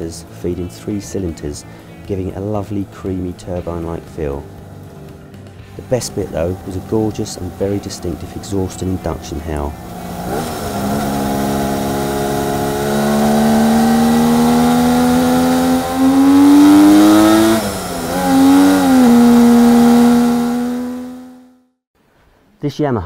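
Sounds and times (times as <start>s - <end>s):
two-stroke motorcycle engine howling: 0.0s - 5.1s, 5.7s - 21.6s.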